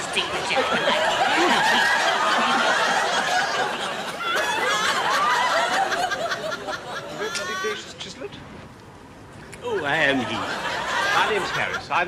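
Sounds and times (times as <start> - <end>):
audience laughing: 0.0 - 8.0, 9.7 - 12.0.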